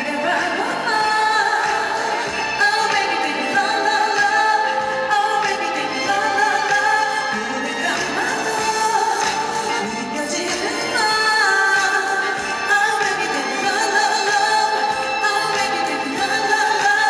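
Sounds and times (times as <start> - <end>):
woman singing pop ballad: 0.0 - 17.0.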